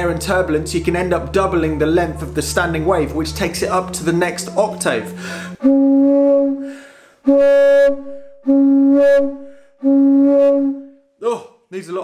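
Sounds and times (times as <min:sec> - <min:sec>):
breathy flute pipe notes: 0:00.0 - 0:11.1.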